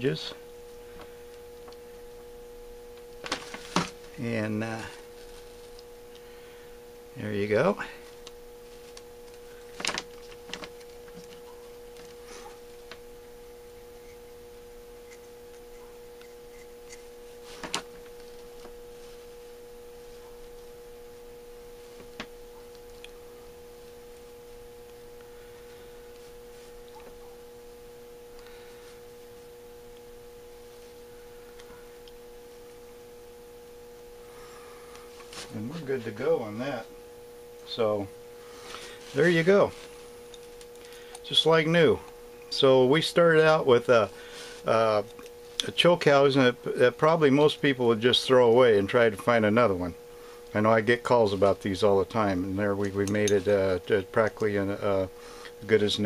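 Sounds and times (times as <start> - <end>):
steady high hum: 0.0 - 56.0.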